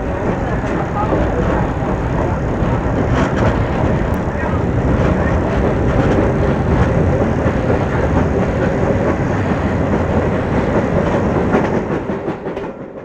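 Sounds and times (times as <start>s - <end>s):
steam locomotive running past: 0.0s - 13.0s
wheels clattering over rails: 0.0s - 13.0s.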